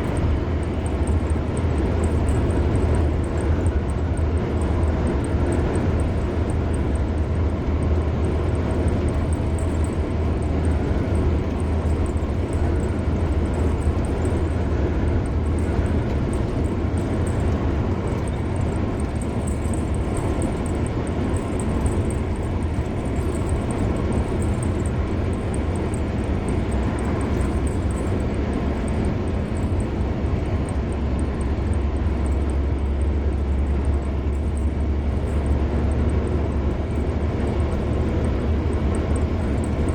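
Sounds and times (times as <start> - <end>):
deep constant rumble: 0.0 - 39.9
tyre and road noise: 0.0 - 39.9.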